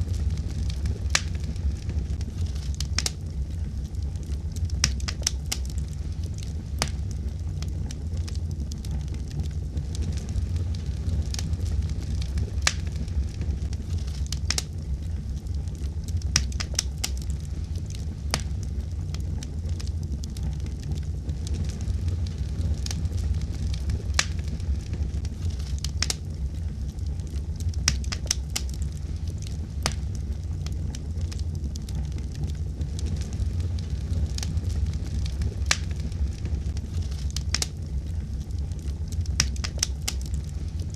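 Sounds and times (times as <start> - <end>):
fire crackling and popping: 0.0 - 40.9
wood fire burning: 0.0 - 40.9.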